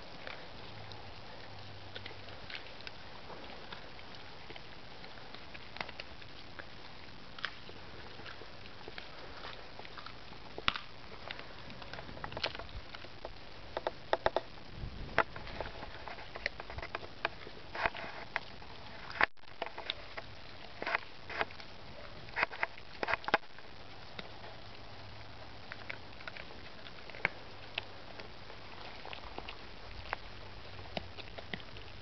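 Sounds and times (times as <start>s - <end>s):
dog chewing bone: 0.0s - 32.0s
steady hiss: 0.0s - 32.0s.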